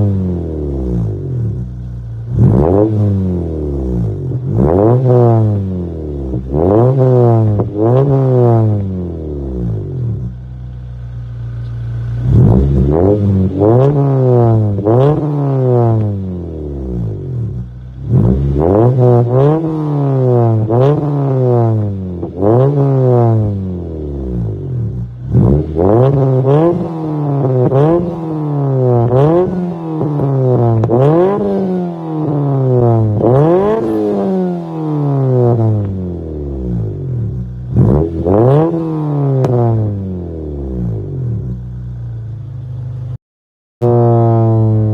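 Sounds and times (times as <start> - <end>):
car engine free revving: 0.0 - 43.2, 43.8 - 44.9.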